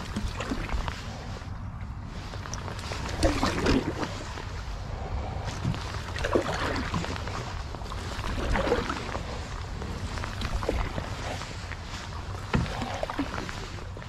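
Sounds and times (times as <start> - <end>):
paddle splashing through water: 0.0 - 14.0.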